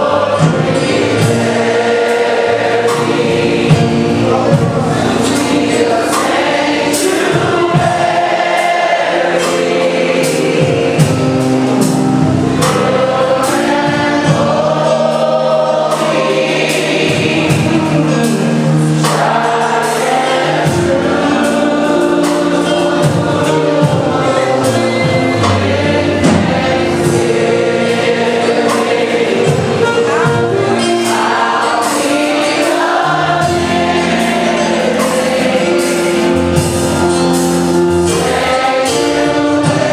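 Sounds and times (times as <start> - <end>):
choir singing gospel: 0.0 - 39.9
instrumental accompaniment with beat: 0.0 - 39.9.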